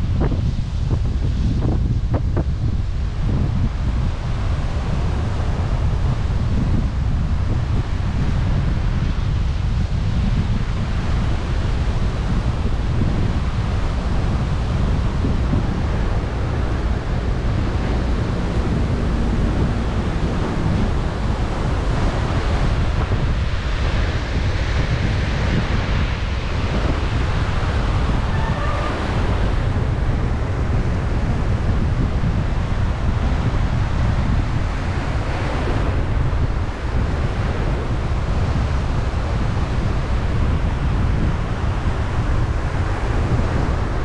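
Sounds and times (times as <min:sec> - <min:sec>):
surf breaking on a beach: 0:00.0 - 0:44.0
wind buffeting the microphone: 0:00.0 - 0:44.0.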